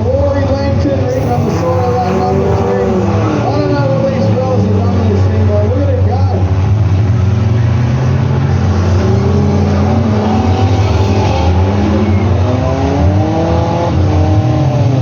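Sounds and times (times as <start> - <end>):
car engines running: 0.0 - 15.0
car engine revving: 0.8 - 5.7, 6.3 - 15.0.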